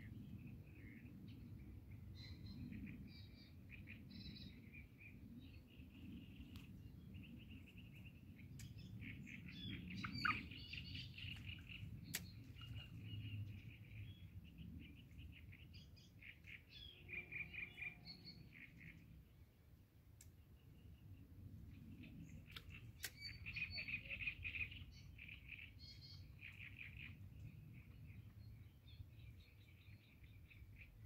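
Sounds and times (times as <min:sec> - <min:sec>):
songbirds chirping and singing: 0:00.1 - 0:19.3, 0:20.2 - 0:31.0.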